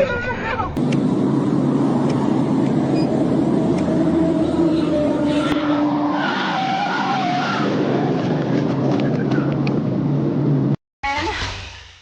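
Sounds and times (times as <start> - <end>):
car road and engine noise: 0.0 - 10.8.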